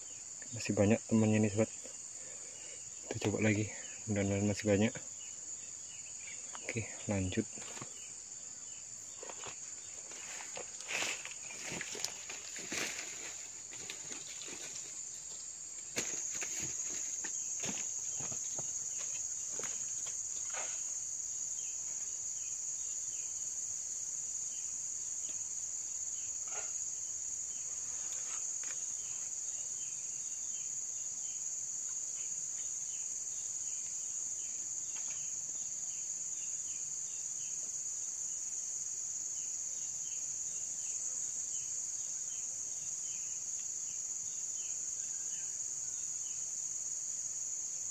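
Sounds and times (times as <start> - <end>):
insect chirping: 0.0 - 47.9.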